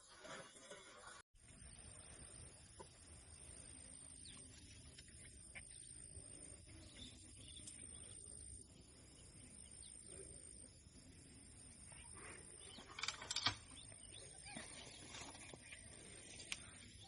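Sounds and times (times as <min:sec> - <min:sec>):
bird chirping: 0:01.5 - 0:17.0.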